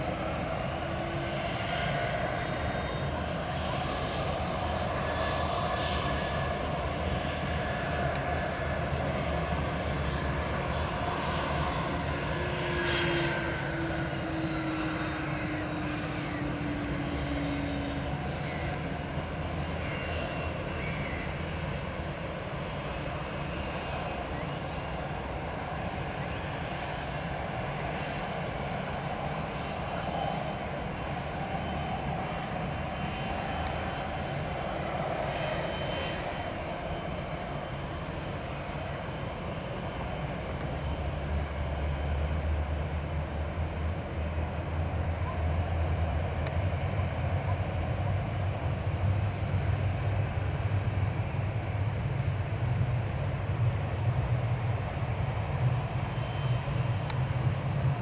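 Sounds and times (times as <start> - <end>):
jet engine noise: 0.0 - 58.0.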